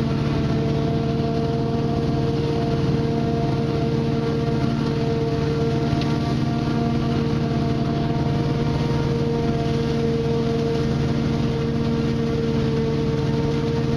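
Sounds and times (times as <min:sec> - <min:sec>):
forage chopper machinery drone: 0:00.0 - 0:13.9
steady whining tone: 0:00.0 - 0:13.9.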